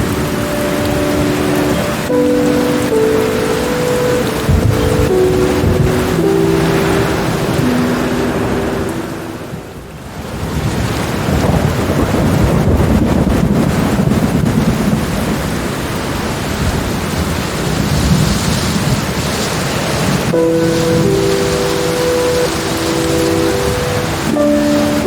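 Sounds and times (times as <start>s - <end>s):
steady rain: 0.0s - 25.0s
thunder rumbling: 0.0s - 25.0s.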